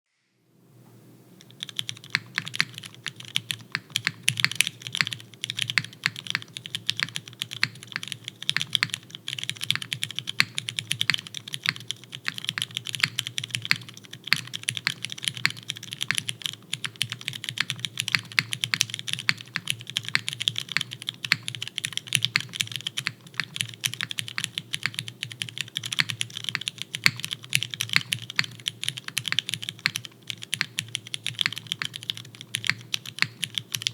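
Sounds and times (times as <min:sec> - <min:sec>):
mechanical keyboard typing: 0:01.4 - 0:33.9.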